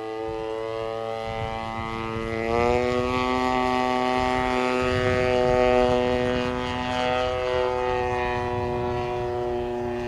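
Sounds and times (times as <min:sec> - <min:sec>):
model plane engine drone: 0:00.0 - 0:10.0.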